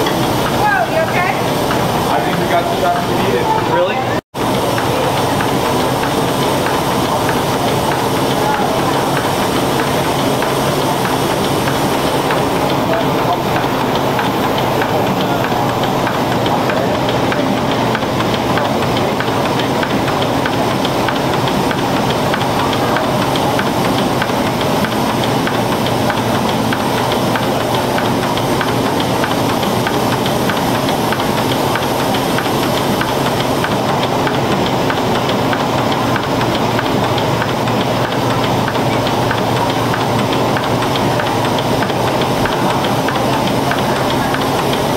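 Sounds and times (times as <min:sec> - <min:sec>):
steam engine running: 0:00.0 - 0:44.9
steam hissing: 0:04.4 - 0:44.9.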